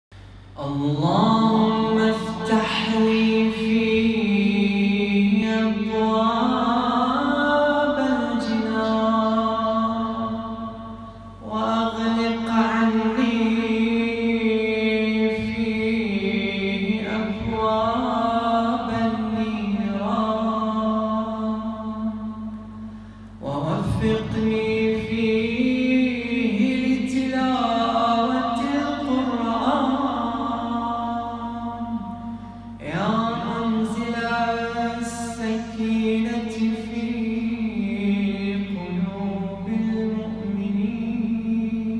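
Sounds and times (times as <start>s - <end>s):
man chanting: 0.6s - 22.5s, 23.4s - 41.9s.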